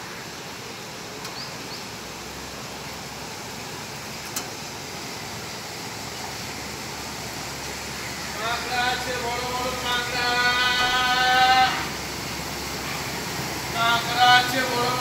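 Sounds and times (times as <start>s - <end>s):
rain falling on flooded street: 0.0s - 15.0s.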